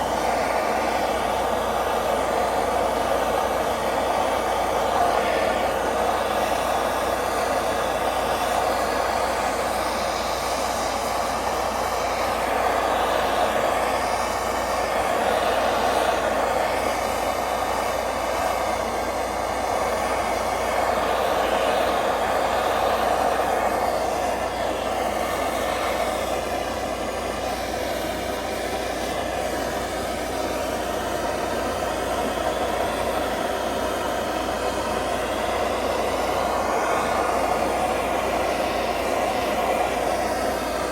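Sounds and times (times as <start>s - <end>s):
blowtorch flame hissing: 0.0s - 40.9s.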